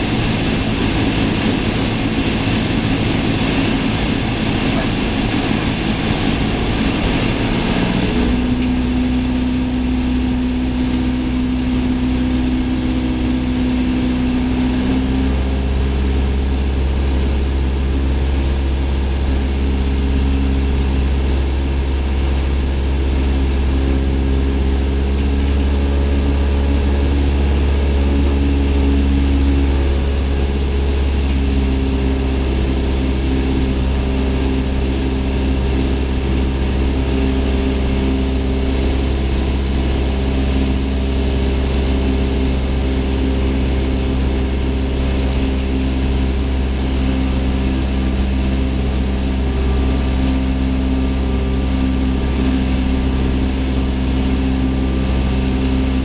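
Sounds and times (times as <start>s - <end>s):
plane engine and propeller droning: 0.0s - 56.0s.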